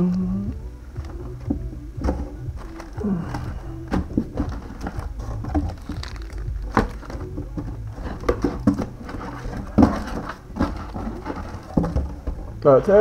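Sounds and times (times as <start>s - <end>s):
low steady hum: 0.0s - 13.0s
foil packs crinkling: 1.0s - 13.0s.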